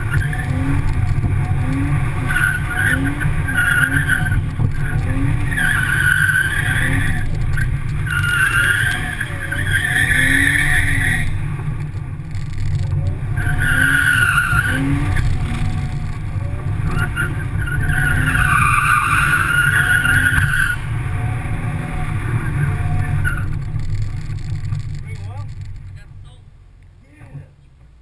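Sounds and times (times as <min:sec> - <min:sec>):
car engine revving hard: 0:00.0 - 0:11.8, 0:12.8 - 0:24.4.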